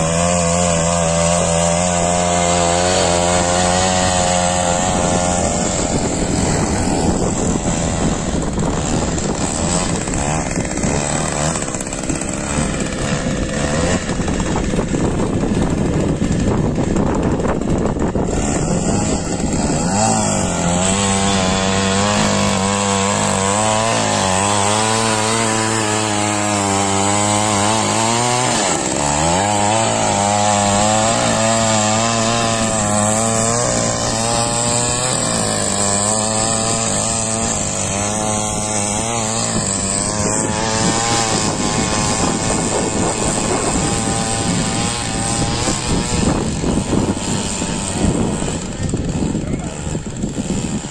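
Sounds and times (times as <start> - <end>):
small petrol engine running: 0.0 - 50.9.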